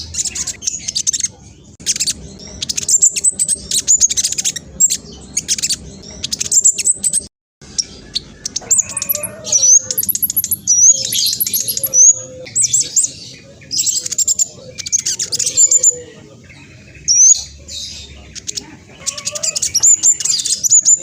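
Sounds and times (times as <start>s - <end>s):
bird singing rapid chirps: 0.0s - 21.0s.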